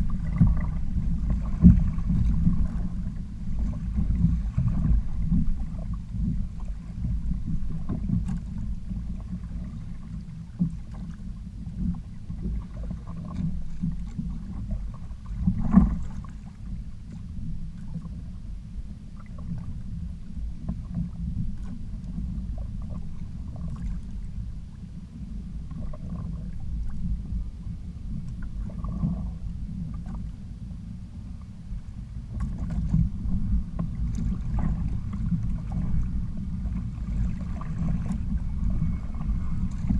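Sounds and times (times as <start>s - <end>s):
rumble of water and wind: 0.0s - 39.9s.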